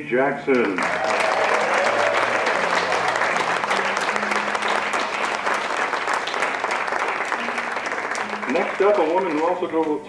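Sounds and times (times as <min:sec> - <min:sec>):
crowd applauding: 0:00.5 - 0:10.0.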